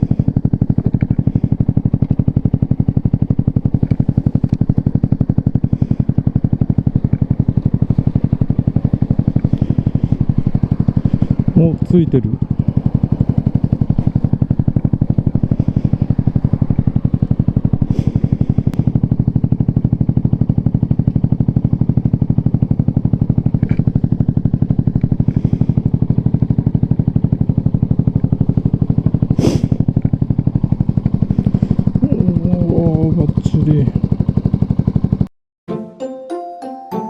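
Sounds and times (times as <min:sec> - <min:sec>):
motorcycle engine idling: 0:00.0 - 0:35.3.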